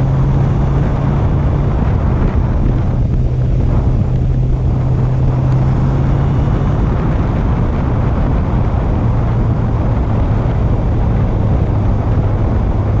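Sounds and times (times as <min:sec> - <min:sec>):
motorcycle engine running: 0:00.0 - 0:13.0
wind and road rush: 0:00.0 - 0:13.0.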